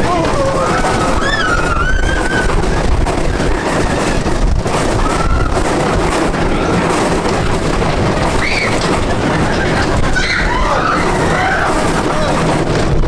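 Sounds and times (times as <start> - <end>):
riders shouting: 0.0 - 6.8, 8.3 - 12.8
roller coaster rumbling on track: 0.0 - 13.0.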